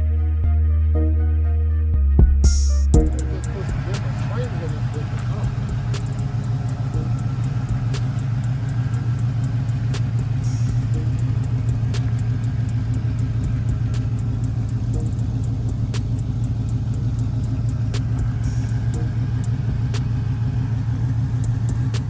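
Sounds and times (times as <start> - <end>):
vehicle running low rumble: 0.0 - 22.0.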